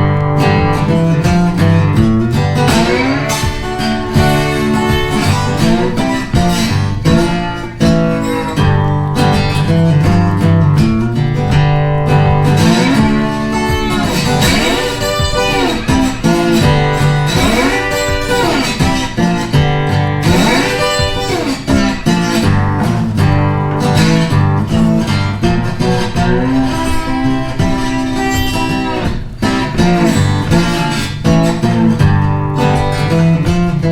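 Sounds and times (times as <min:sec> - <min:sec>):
guitar music with bending notes: 0:00.0 - 0:33.9
steady bass line: 0:00.0 - 0:33.9.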